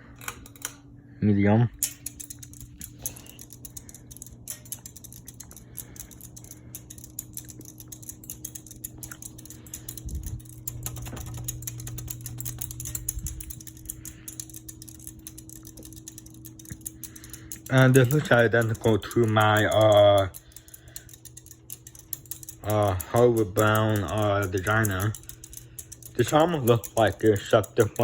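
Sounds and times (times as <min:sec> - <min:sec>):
ceiling fan motor hum: 0:00.0 - 0:28.0
rapid light clicking: 0:01.8 - 0:28.0.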